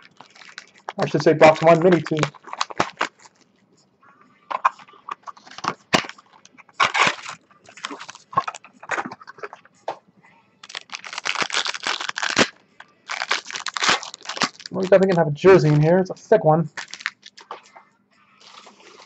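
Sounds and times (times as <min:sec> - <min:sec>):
packaging crinkling and tearing: 0:00.0 - 0:03.5, 0:04.5 - 0:09.6, 0:10.6 - 0:15.8, 0:16.7 - 0:17.7, 0:18.4 - 0:19.0.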